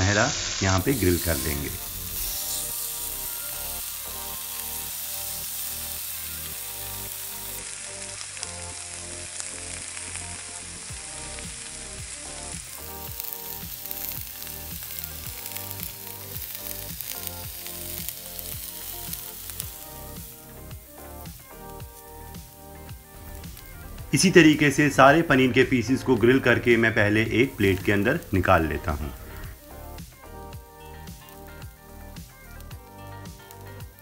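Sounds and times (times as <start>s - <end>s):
cheese sizzling on a grill pan: 0.0s - 34.0s.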